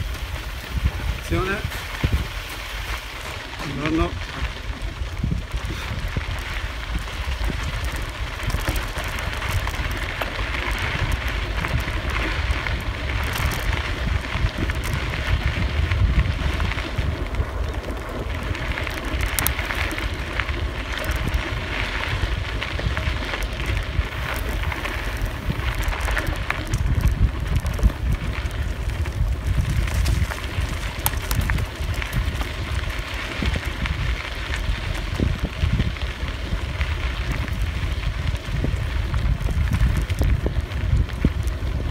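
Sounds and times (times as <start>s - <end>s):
bicycle tyres on gravel: 0.0s - 41.9s
wind buffeting microphone: 0.0s - 41.9s.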